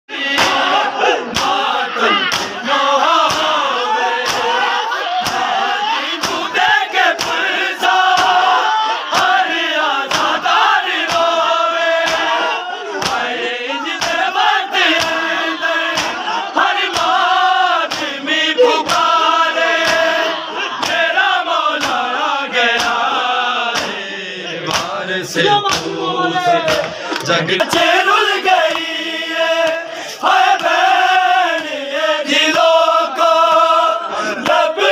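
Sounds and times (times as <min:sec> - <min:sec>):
crowd of men chanting: 0:00.1 - 0:34.9
hands slapping chests: 0:00.3 - 0:24.0, 0:24.6 - 0:25.0, 0:25.6 - 0:26.0, 0:26.6 - 0:29.0, 0:29.6 - 0:31.7, 0:34.4 - 0:34.7.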